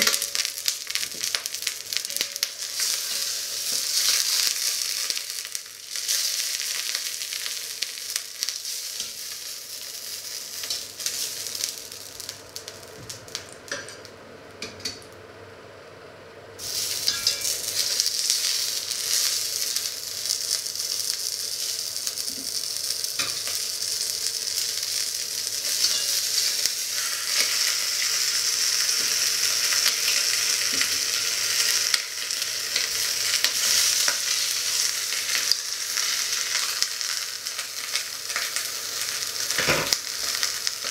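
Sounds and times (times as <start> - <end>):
chicken sizzling in hot fat: 0.0 - 14.1, 16.6 - 40.9.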